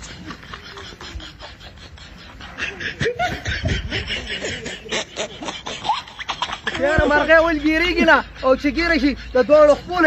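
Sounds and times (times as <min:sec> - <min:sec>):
snickering laughter: 0:00.0 - 0:10.0.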